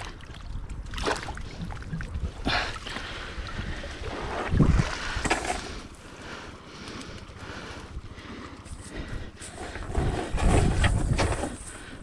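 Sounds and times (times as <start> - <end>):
wind rumble on microphone: 0.0 - 5.8, 7.8 - 12.0.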